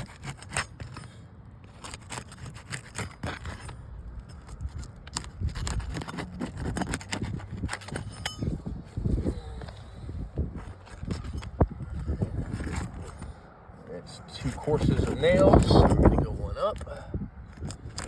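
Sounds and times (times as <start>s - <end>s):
tool scraping under shingles: 0.0s - 18.0s.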